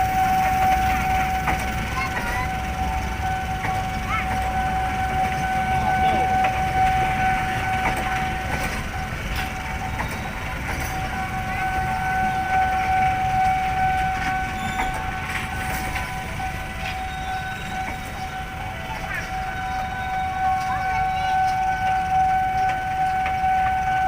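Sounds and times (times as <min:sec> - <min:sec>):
train rumbling: 0:00.0 - 0:24.0
train wheel clicks: 0:00.0 - 0:24.0.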